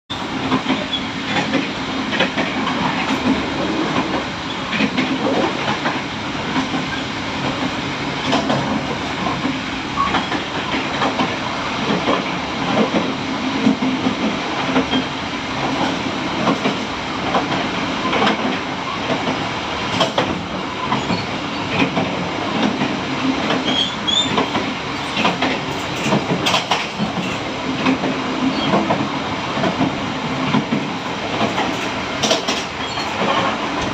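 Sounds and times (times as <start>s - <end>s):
train rumbling along track: 0.1s - 33.9s
wheels clacking on rails: 0.1s - 33.9s.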